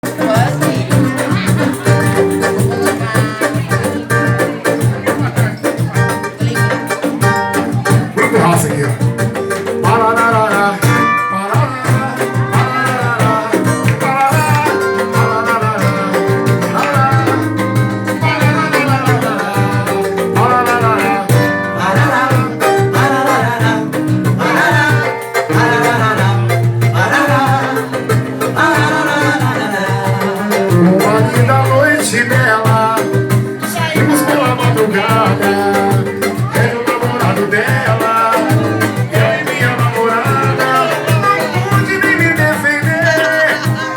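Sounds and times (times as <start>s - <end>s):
latin dance band music: 0.0s - 43.9s.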